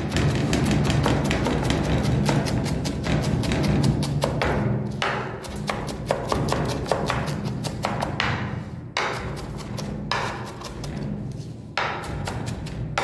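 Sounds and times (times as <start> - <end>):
knife chopping on wooden board: 0.0 - 11.1, 11.8 - 13.0.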